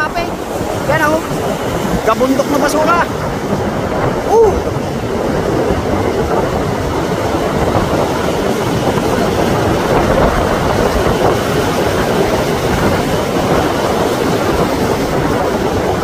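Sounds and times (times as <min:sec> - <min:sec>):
heavy surf breaking: 0:00.0 - 0:16.0.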